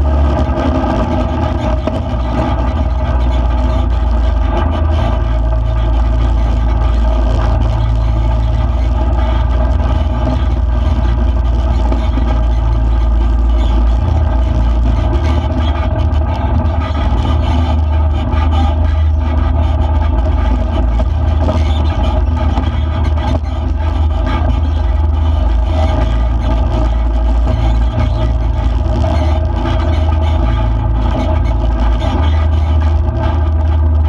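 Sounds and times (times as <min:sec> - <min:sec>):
off-road vehicle engine rumble: 0:00.0 - 0:34.0.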